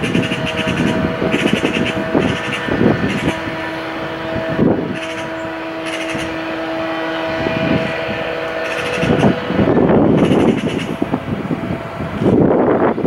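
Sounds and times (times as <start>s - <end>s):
electric train whine and rumble: 0.0s - 13.0s.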